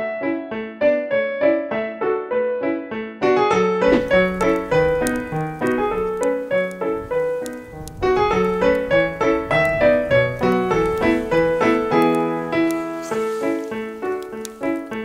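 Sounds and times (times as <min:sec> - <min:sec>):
lively piano music: 0:00.0 - 0:15.0.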